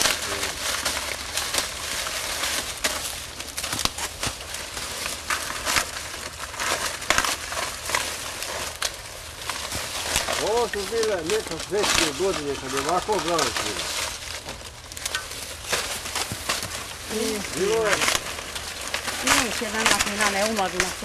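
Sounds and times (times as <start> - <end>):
corn ears snapping: 0.0 - 21.0
dry corn stalks rustling: 0.0 - 21.0.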